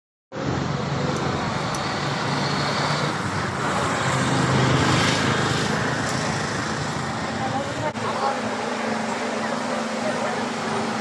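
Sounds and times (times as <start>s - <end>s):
road traffic passing: 0.3s - 11.0s.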